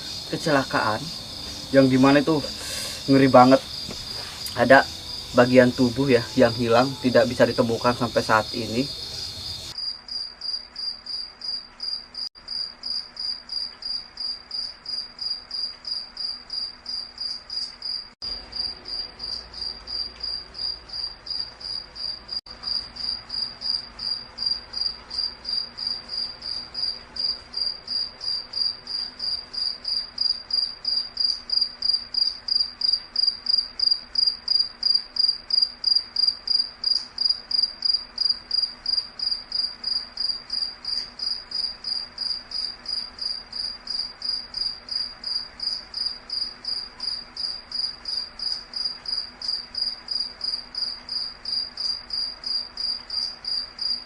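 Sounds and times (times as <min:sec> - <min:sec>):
insect chirping: 0:00.0 - 0:54.0.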